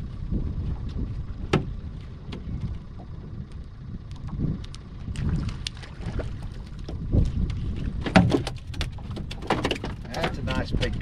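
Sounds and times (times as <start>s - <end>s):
water lapping against boat hull: 0.0s - 11.0s
wind rumbling on microphone: 0.0s - 11.0s.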